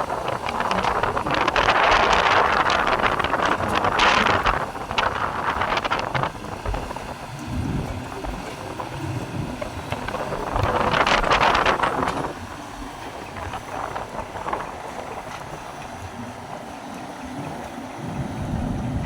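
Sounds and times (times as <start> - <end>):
excavator rattling and clanking: 0.0 - 17.6
low engine rumble: 0.0 - 19.0.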